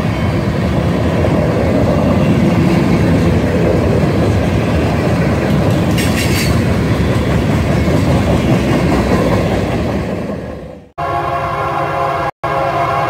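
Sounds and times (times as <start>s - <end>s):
steel wheels rumbling on rails: 0.0s - 10.9s
freight train rolling past: 0.0s - 13.0s.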